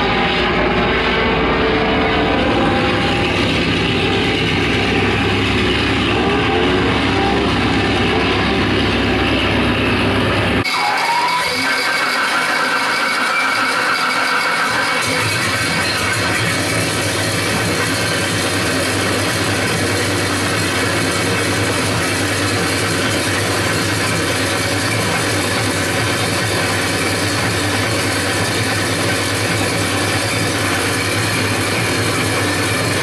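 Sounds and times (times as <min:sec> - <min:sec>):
propeller aircraft engine droning: 0:00.0 - 0:33.0.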